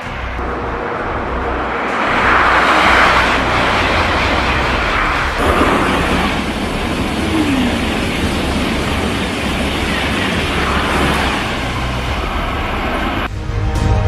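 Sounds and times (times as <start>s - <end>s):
high-speed train rushing: 0.0s - 14.0s.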